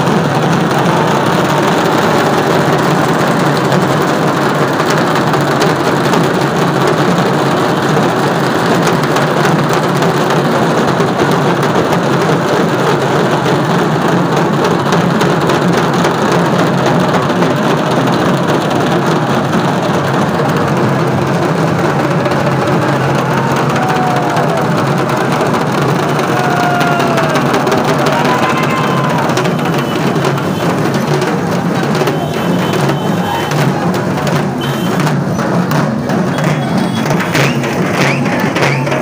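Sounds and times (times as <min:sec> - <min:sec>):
crowd noise: 0:00.0 - 0:39.0
loud drumming: 0:00.0 - 0:39.0.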